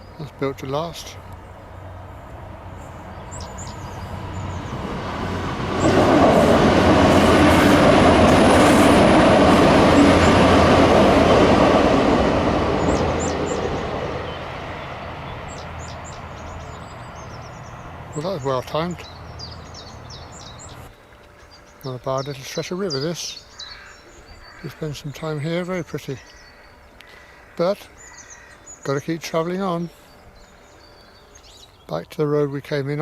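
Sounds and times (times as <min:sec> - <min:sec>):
birds chirping faintly: 0:00.0 - 0:06.4, 0:09.7 - 0:33.0
train crossing a bridge: 0:00.0 - 0:33.0.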